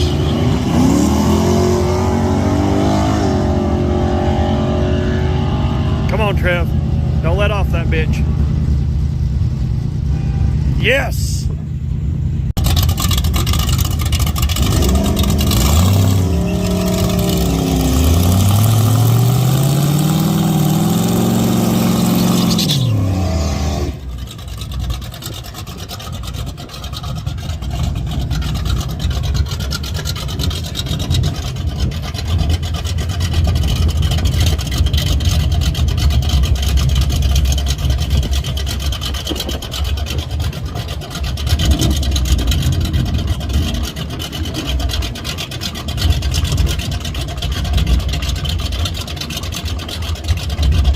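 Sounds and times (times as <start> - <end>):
drag car engine revving: 0.0 - 10.8, 11.5 - 50.9.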